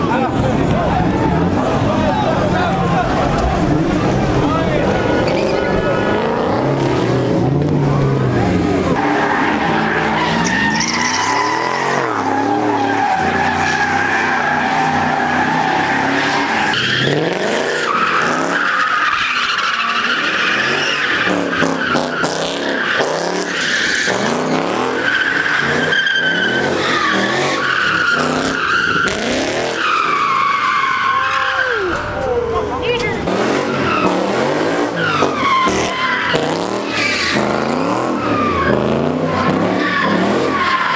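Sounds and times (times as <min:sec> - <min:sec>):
engines revving: 0:00.0 - 0:40.9
shrill tire squeals: 0:00.0 - 0:40.9.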